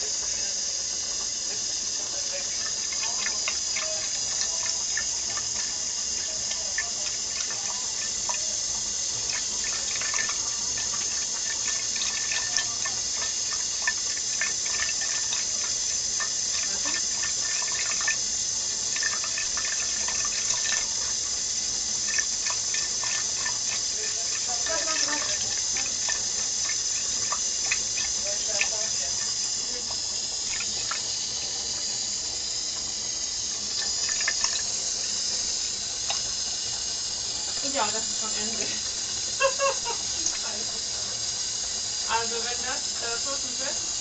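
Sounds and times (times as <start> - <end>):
cat drinking small splashes: 0.0 - 44.0
tap water running into pan: 0.0 - 44.0.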